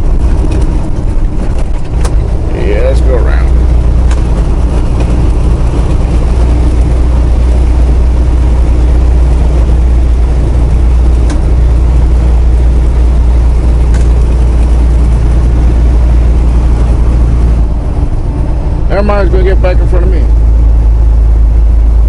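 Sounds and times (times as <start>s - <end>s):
road noise: 0.0s - 22.0s
truck diesel engine droning: 0.0s - 22.0s.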